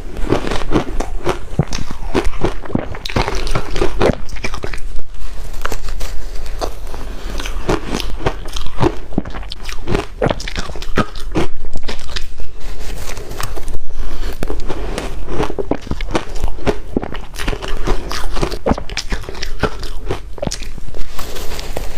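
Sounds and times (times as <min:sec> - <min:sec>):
ice cubes crunching when chewed: 0:00.2 - 0:21.9.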